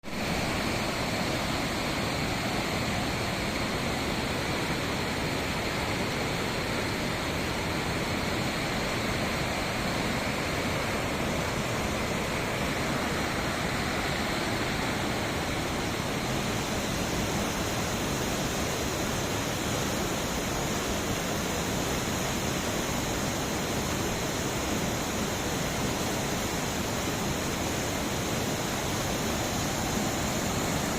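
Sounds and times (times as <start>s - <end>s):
river water rushing: 0.1s - 30.9s.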